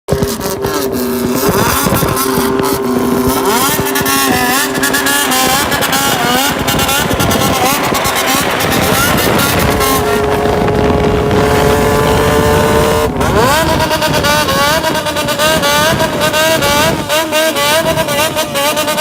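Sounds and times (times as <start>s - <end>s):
motorcycle engines droning: 0.1s - 19.0s
motorcycle engines revving: 0.1s - 19.0s.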